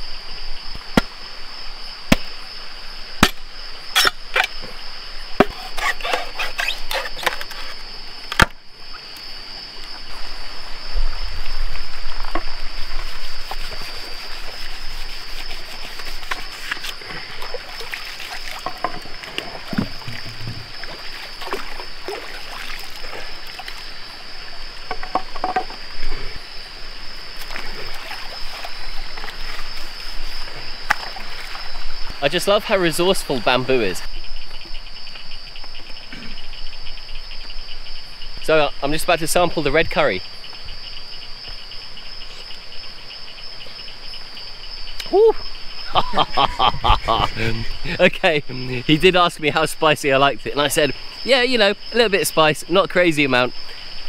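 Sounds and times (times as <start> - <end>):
frogs croaking: 0.0 - 54.0
high-pitched insect drone: 1.3 - 54.0.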